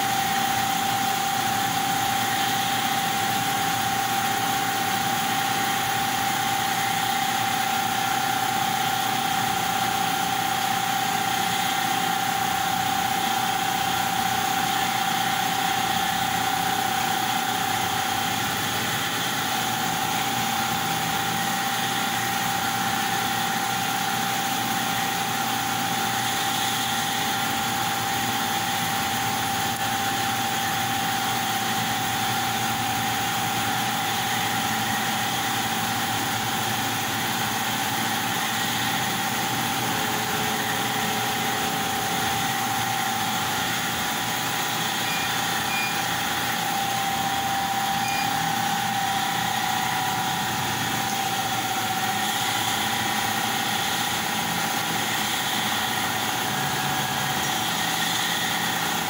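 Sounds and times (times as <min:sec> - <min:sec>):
laser cutter mechanical drone: 0:00.0 - 0:59.0
mid-pitched whine: 0:00.0 - 0:59.0.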